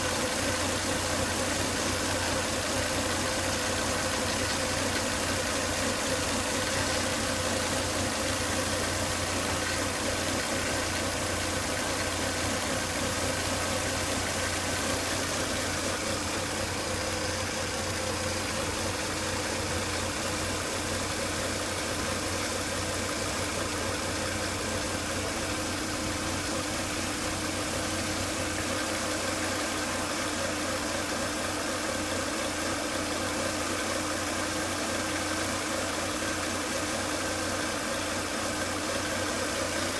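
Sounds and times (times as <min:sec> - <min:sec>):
car engine idling with whine: 0:00.0 - 0:39.9.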